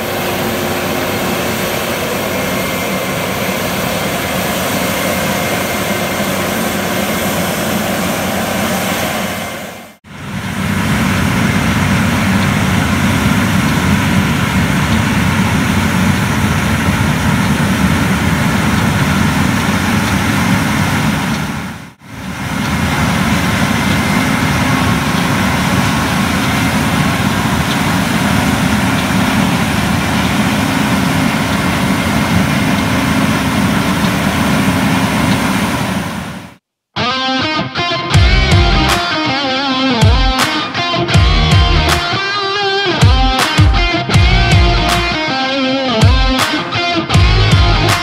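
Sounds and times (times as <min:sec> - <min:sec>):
diesel farm machinery running: 0:00.0 - 0:36.6, 0:37.8 - 0:48.0.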